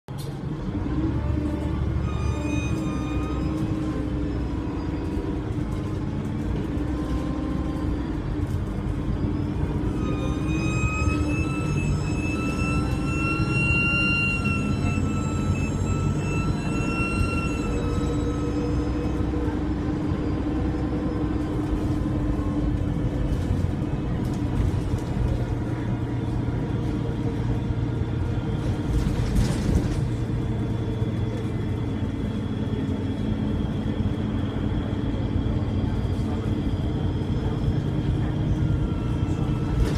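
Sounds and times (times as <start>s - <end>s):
bus engine running: 0.1s - 39.9s.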